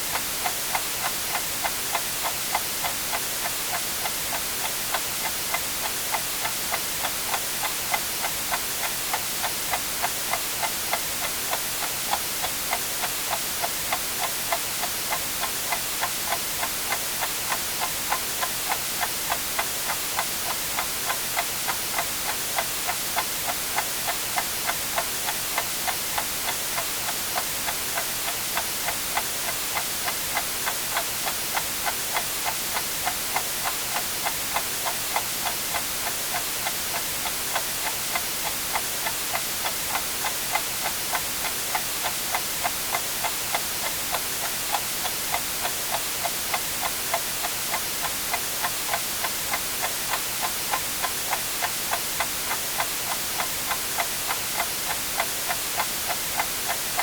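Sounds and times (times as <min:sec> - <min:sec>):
white-noise hiss: 0:00.0 - 0:57.0
clock ticking: 0:00.2 - 0:57.0.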